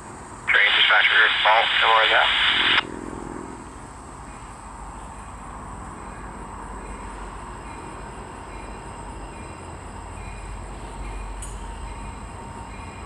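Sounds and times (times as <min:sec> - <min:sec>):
rail noise: 0:00.0 - 0:13.0.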